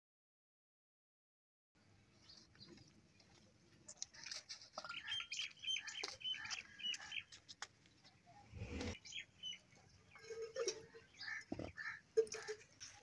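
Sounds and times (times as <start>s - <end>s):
small birds chirping: 1.8s - 12.6s.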